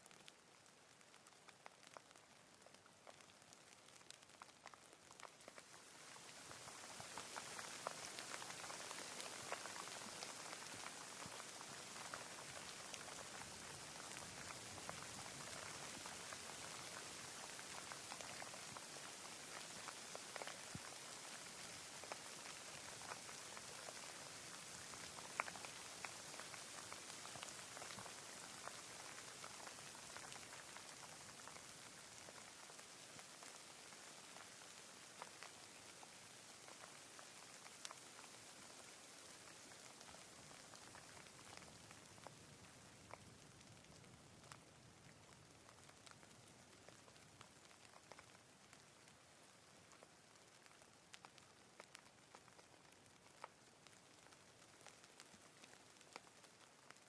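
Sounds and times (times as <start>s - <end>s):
light rain hiss: 0.0s - 57.0s
raindrops ticking: 0.0s - 57.0s.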